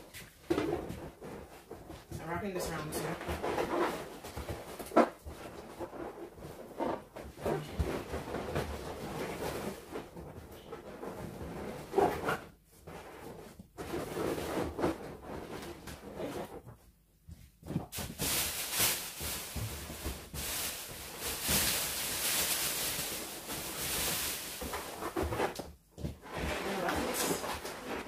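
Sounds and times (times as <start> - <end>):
hissy balloon rustle: 0.0 - 28.0
balloons rubbing together: 2.8 - 17.0, 17.6 - 28.0.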